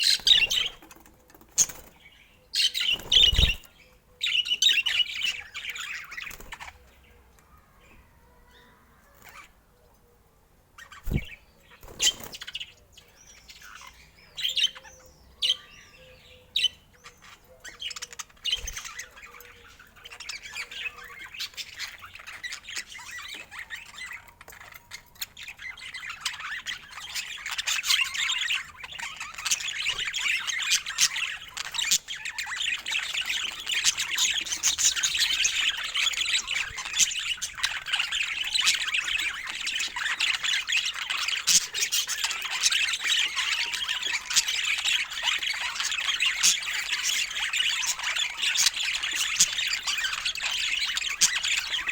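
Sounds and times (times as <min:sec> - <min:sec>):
budgerigars chirping: 0:00.0 - 0:07.1, 0:10.8 - 0:51.9.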